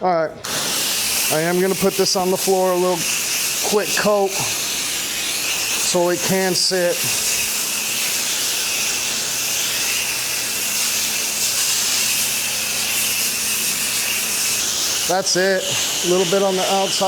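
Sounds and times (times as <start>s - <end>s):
spray nozzle hissing: 0.4s - 17.0s.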